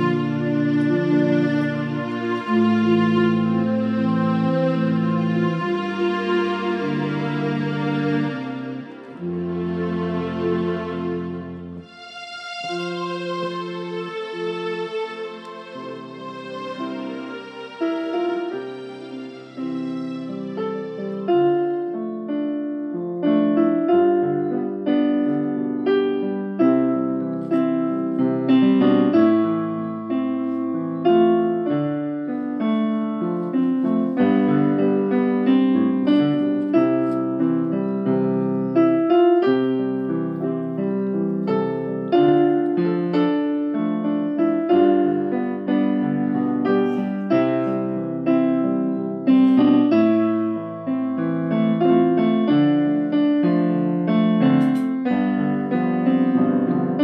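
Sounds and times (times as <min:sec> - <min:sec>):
solo piano music: 0:00.0 - 0:57.0.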